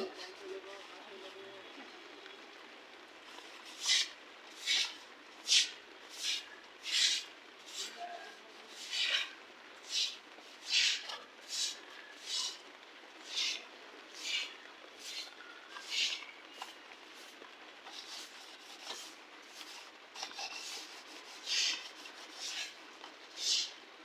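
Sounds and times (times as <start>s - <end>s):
hand scrubbing strokes on metal: 3.3s - 12.6s, 13.2s - 23.8s.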